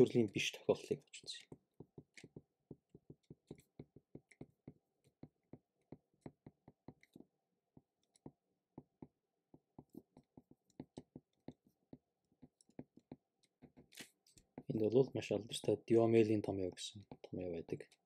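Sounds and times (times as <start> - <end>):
stylus tapping on tablet screen: 1.1 - 15.7, 16.6 - 18.0.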